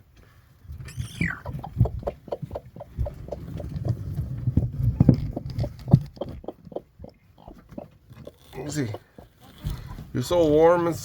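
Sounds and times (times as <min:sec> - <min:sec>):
hen clucking: 0:00.8 - 0:04.2, 0:04.8 - 0:11.0.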